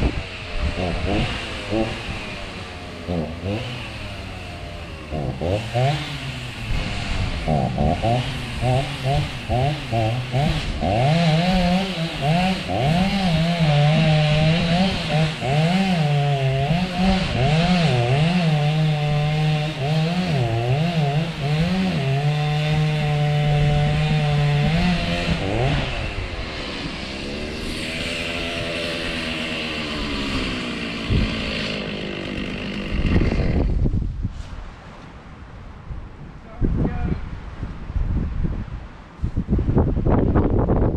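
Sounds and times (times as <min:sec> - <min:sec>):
chainsaw cutting wood: 0:00.0 - 0:34.6.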